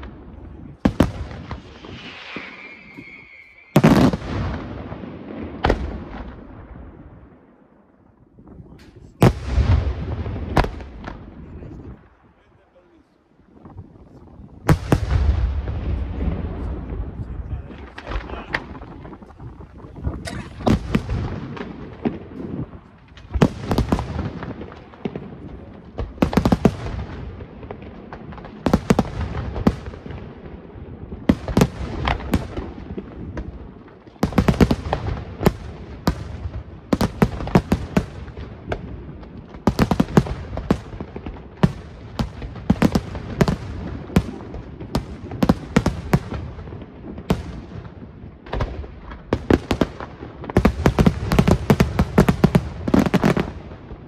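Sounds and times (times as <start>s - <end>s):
fireworks bursting with loud bangs: 0.0s - 12.3s, 13.5s - 54.0s.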